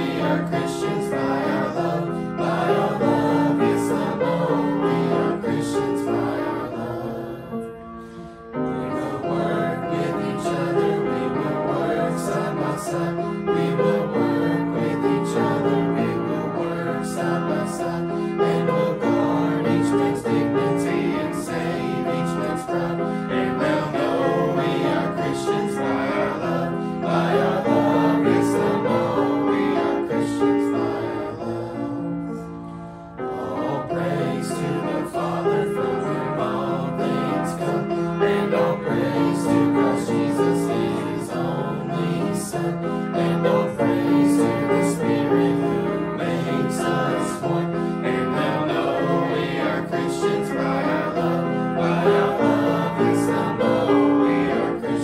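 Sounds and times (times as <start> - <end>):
choir singing a gospel hymn: 0.0 - 55.0
piano accompaniment: 0.0 - 55.0.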